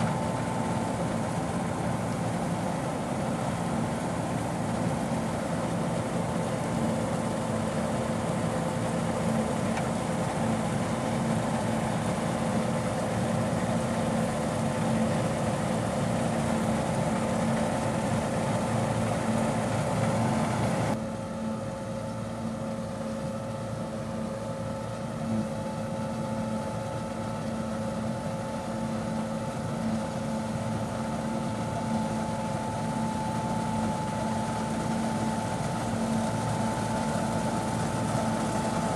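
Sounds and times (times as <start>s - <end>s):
combine harvester droning and whining: 0.0s - 38.9s.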